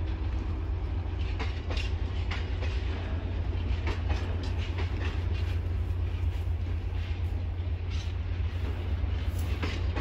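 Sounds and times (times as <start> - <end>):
freight train rumbling: 0.0 - 10.0
train wheels clicking on track: 0.0 - 10.0.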